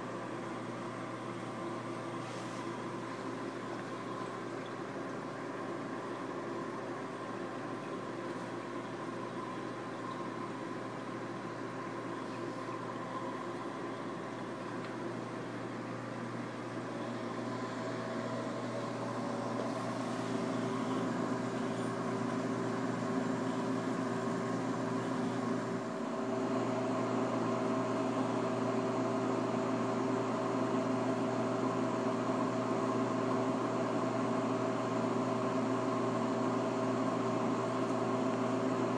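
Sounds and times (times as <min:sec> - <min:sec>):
aquarium pumps humming: 0:00.0 - 0:38.9.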